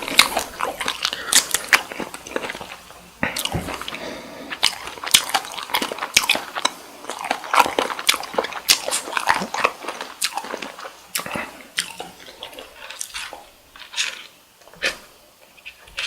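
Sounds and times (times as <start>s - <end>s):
chewing shrimp: 0.0s - 16.0s.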